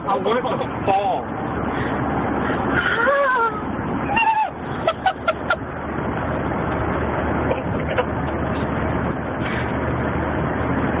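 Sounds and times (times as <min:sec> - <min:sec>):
low engine hum: 0:00.0 - 0:11.0
road and wind noise in car: 0:00.0 - 0:11.0.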